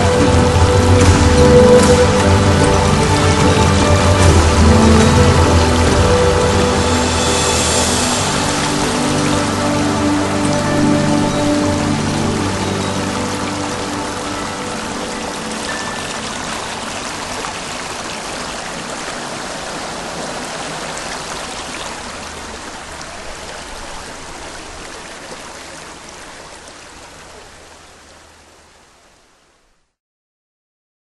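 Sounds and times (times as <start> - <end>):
stream water rushing: 0.0 - 29.8.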